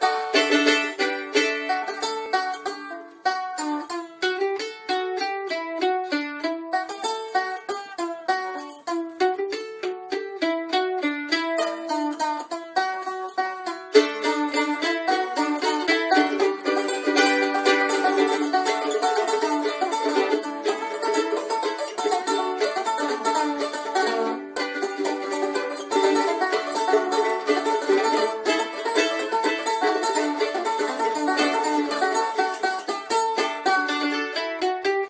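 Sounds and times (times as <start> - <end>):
banjo picking: 0.0 - 35.0
mandolin: 0.0 - 35.0.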